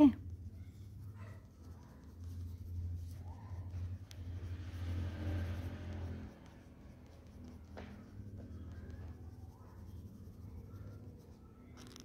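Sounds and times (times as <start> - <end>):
low steady rumble: 0.0 - 12.0
pencil scratching on paper: 0.0 - 12.0.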